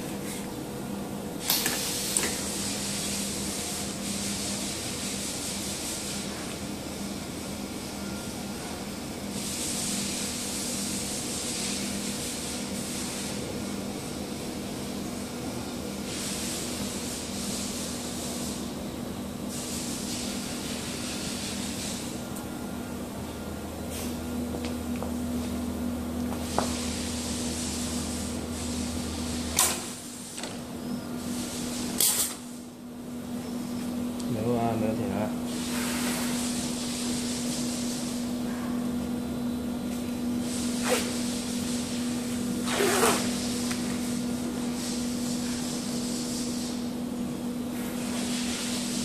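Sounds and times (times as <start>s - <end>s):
welding machine humming and hissing: 0.0s - 49.0s.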